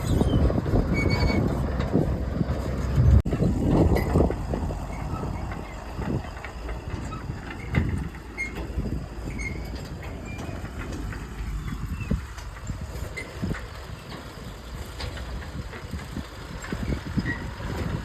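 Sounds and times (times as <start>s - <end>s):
clanking and rattling: 0.0s - 18.0s
diesel machinery rumbling: 0.0s - 18.0s.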